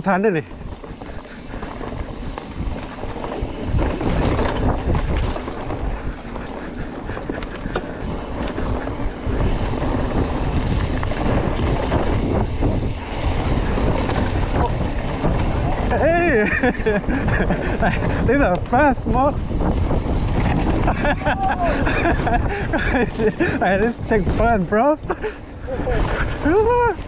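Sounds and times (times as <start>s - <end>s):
bike clicks and rattles: 0.0s - 27.0s
tyres rolling on dirt: 0.0s - 27.0s
wind buffeting microphone: 0.4s - 27.0s.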